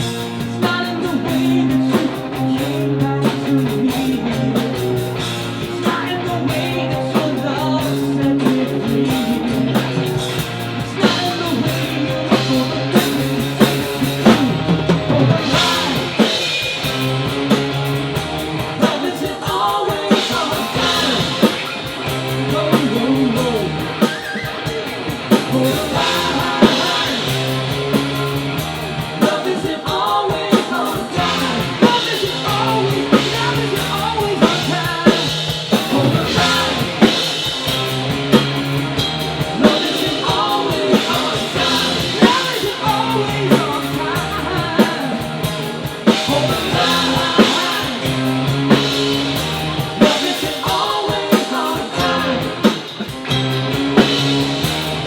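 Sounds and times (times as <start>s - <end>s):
person singing: 0.0s - 5.0s, 5.6s - 16.8s, 18.8s - 37.8s, 39.4s - 53.2s
live rock band playing: 0.0s - 55.0s.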